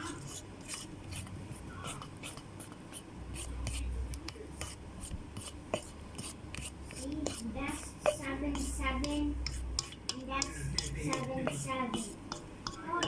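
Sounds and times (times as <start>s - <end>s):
fork stirring thick batter: 0.0s - 13.0s.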